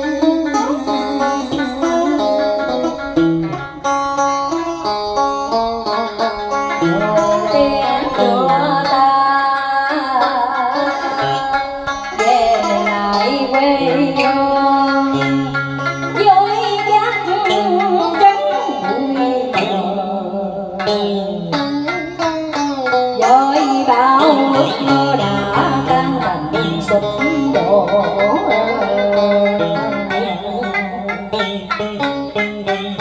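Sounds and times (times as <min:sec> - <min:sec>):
electric guitar melody: 0:00.0 - 0:09.9, 0:10.5 - 0:33.0
plucked string instrument: 0:00.0 - 0:33.0.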